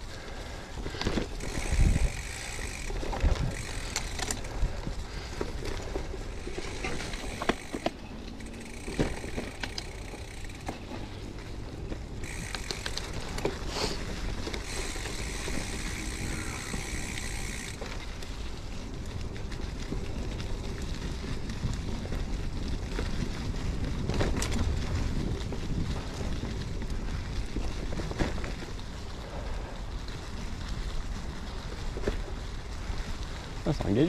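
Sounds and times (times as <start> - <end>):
bike rattling and knocking: 0.0 - 34.0
tyres rolling on gravel: 0.0 - 34.0.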